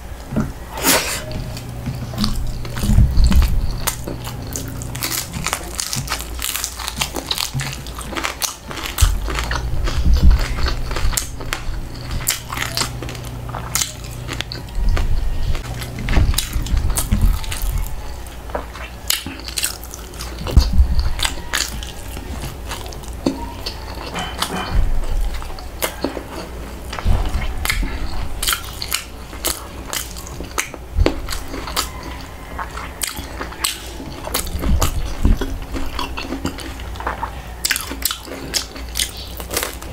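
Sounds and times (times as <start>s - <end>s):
crunchy food chewing: 0.2s - 39.9s.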